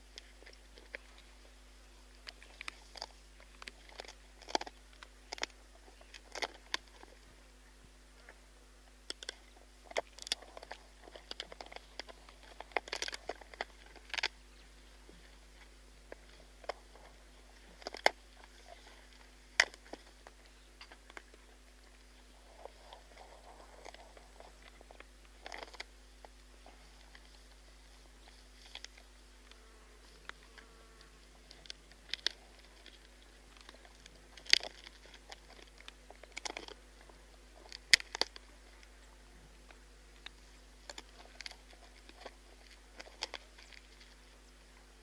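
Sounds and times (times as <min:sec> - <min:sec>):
hyena crunching bones: 0:00.0 - 0:07.4, 0:08.2 - 0:45.0.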